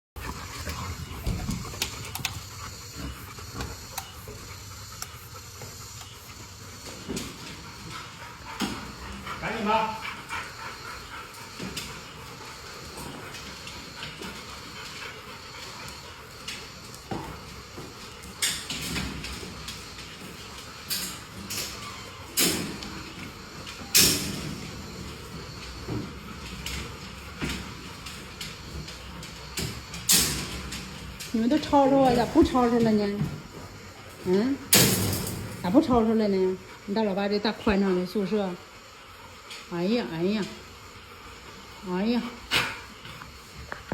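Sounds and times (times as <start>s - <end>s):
dogs moving about: 0.2s - 43.9s.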